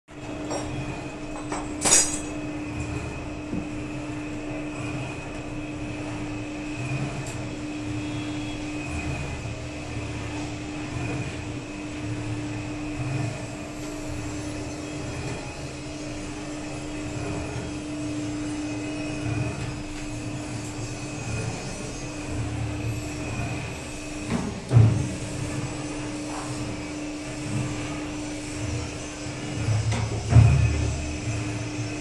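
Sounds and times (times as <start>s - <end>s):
washing machine motor hum: 0.1s - 32.0s.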